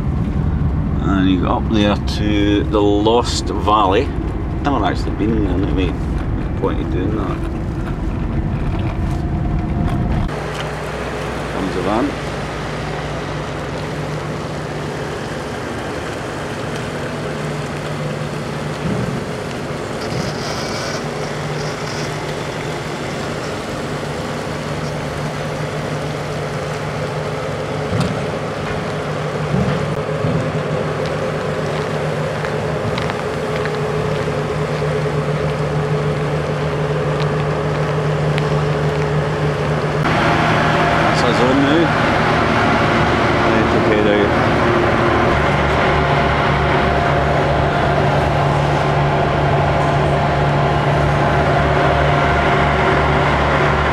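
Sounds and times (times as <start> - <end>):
engine humming: 0.0 - 53.9.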